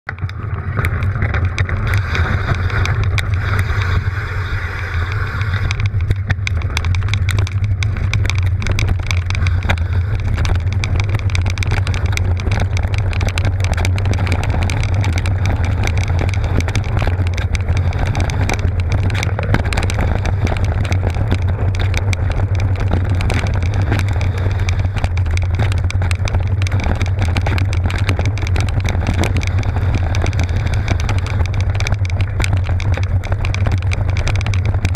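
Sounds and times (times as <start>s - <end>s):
bike rattling clicks: 0.1s - 34.9s
bike rolling on gravel rumble: 0.1s - 34.9s.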